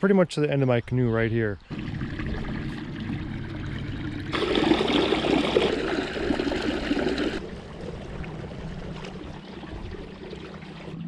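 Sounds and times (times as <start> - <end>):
water churning and splashing: 1.6 - 11.0.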